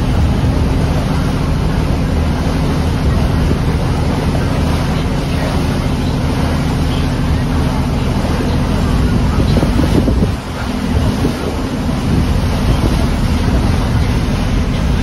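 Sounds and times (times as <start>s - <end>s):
boat engine running: 0.0s - 15.0s
water rushing along hull: 0.0s - 15.0s
wind buffeting microphone: 0.0s - 15.0s.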